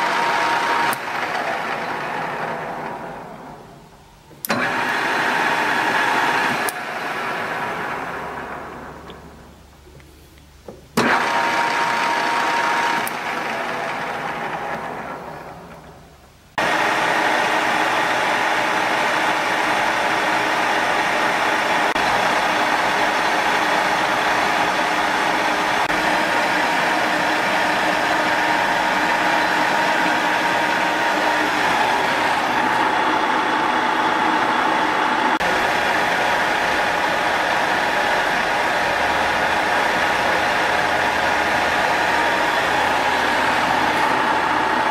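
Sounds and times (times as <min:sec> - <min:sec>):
lathe spindle and gears running: 0:00.0 - 0:09.9, 0:11.0 - 0:44.9.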